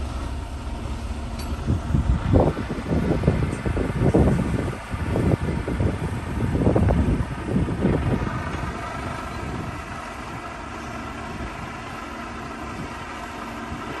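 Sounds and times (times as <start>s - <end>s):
heavy truck engine running: 0.0s - 14.0s
wind buffeting microphone: 0.0s - 14.0s.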